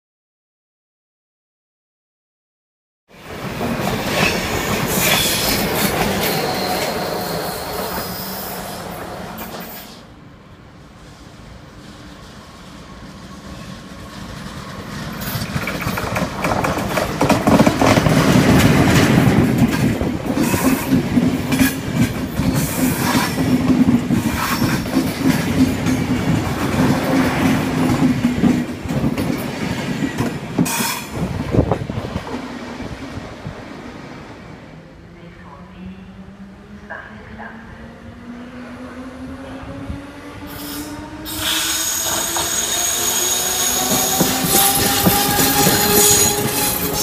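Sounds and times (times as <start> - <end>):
train passing rumble: 3.2 - 47.0.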